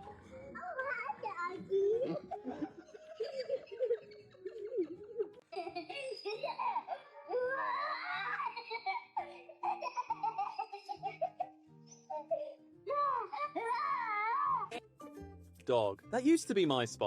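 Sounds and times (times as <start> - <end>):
light background music: 0.0 - 17.0
baby laughing: 0.8 - 14.8.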